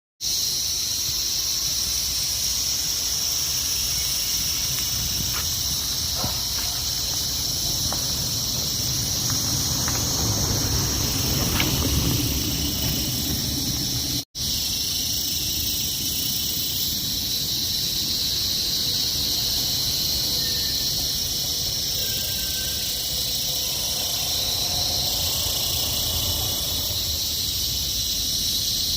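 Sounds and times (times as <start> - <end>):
shrill insect chorus: 0.2 - 28.9.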